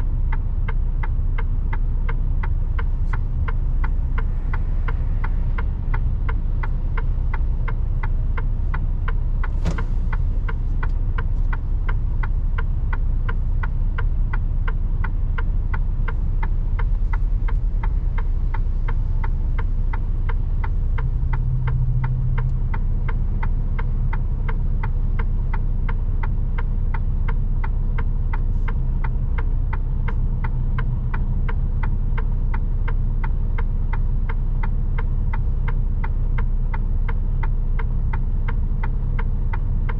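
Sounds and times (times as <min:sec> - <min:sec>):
diesel engine rumbling: 0:00.0 - 0:39.9
turn signal ticking: 0:00.0 - 0:39.9.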